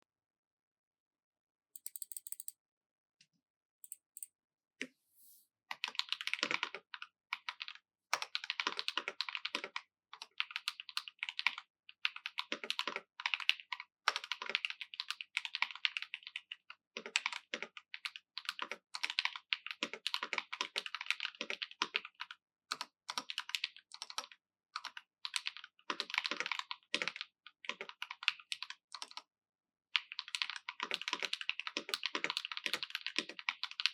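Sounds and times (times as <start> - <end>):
typing on mechanical keyboard: 1.8 - 2.5, 3.8 - 4.3, 5.8 - 29.3, 30.0 - 33.9.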